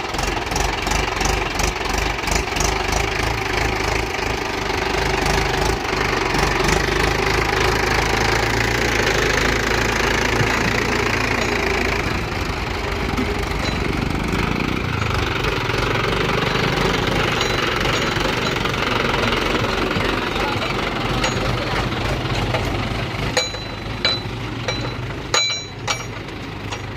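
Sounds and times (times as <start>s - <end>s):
heavy machinery diesel engine chugging: 0.0s - 26.9s.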